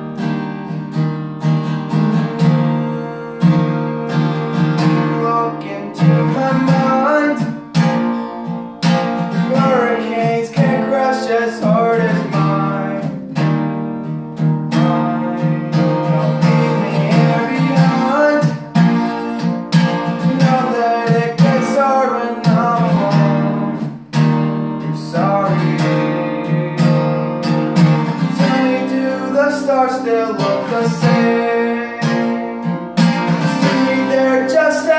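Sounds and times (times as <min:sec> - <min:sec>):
acoustic guitar strumming: 0:00.0 - 0:34.9
man singing: 0:01.7 - 0:08.2, 0:08.9 - 0:13.5, 0:14.7 - 0:24.0, 0:24.8 - 0:34.9.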